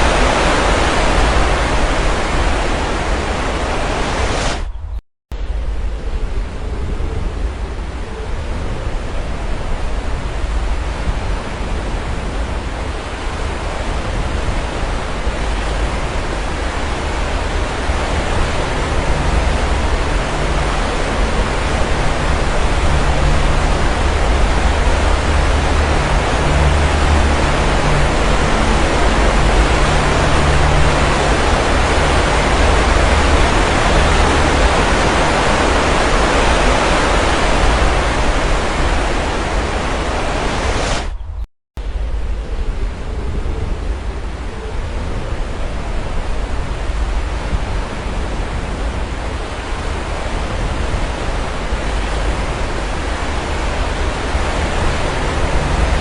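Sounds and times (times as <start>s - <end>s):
sea waves washing onto shore: 0.0s - 4.6s, 7.8s - 41.1s, 42.6s - 56.0s.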